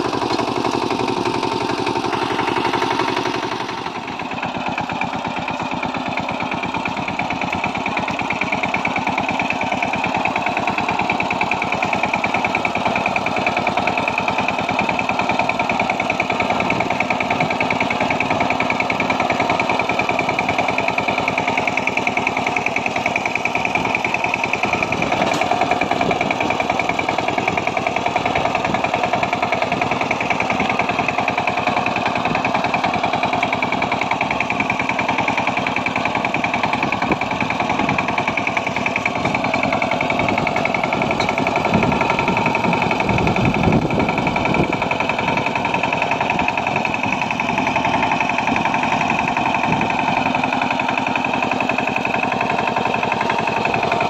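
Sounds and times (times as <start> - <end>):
diesel tiller engine running: 0.0 - 54.0.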